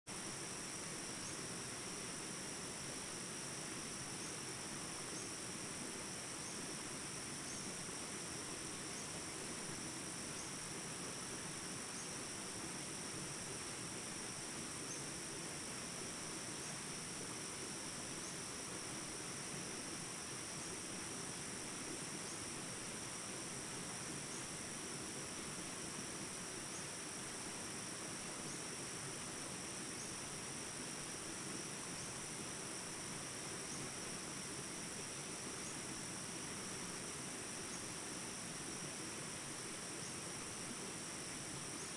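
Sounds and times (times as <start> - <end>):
insects chirring: 0.1 - 41.9.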